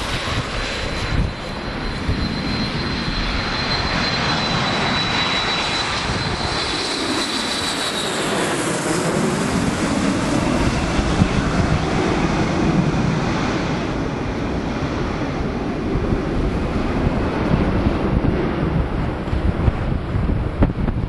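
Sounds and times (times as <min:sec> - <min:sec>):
high jet whine: 0:00.0 - 0:21.0
jet airliner passing overhead: 0:00.0 - 0:21.0
low jet rumble: 0:00.0 - 0:21.0.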